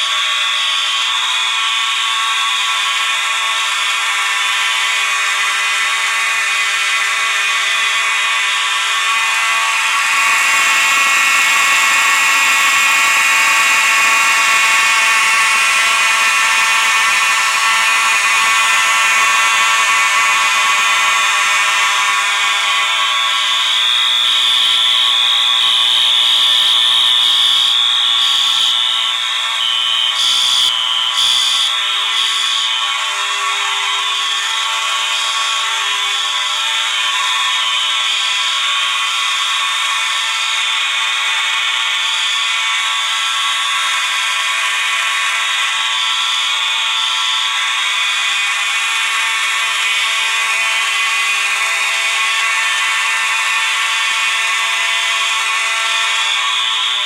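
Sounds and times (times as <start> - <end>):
fire alarm horns sounding: 0.0 - 57.0.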